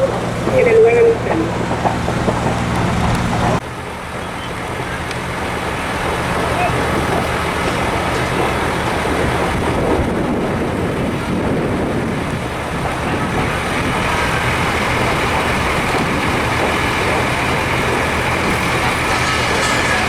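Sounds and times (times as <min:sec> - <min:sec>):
constant rushing noise: 0:00.0 - 0:20.0
diesel engine running: 0:00.0 - 0:20.0.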